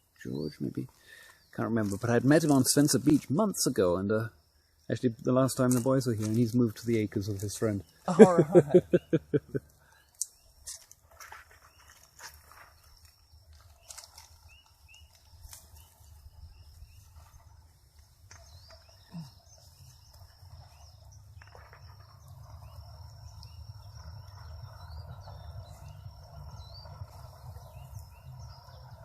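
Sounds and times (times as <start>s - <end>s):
small birds chirping: 0.0s - 29.0s
high insect tone: 1.6s - 29.0s.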